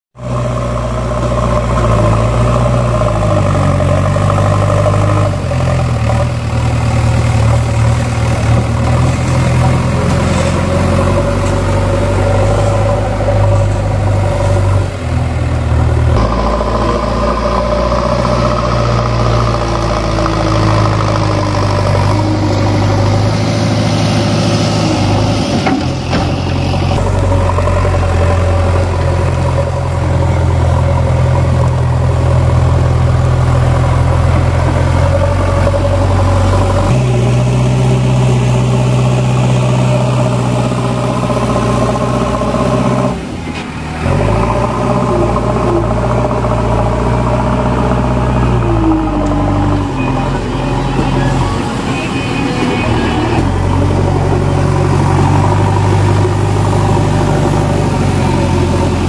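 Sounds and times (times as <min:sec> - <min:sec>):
diesel engine running: 0:00.2 - 0:59.0
loader bucket pushing soil: 0:00.2 - 0:59.0.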